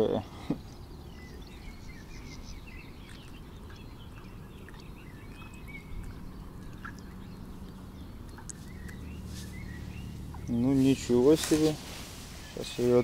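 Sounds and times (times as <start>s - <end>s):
small birds chirping: 0.0s - 13.0s
low rumble: 0.6s - 12.8s.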